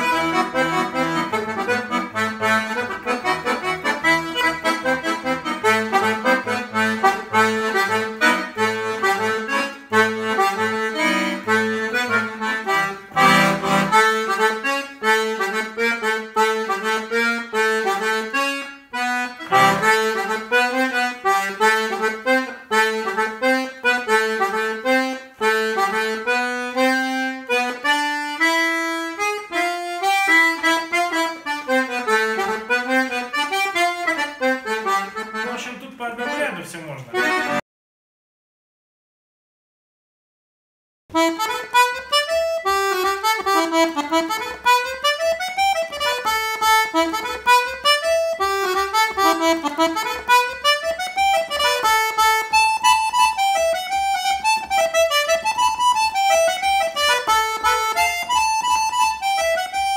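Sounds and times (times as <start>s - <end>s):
accordion bass notes: 0.0s - 37.6s, 41.1s - 59.9s
button accordion melody: 0.0s - 37.6s, 41.1s - 59.9s.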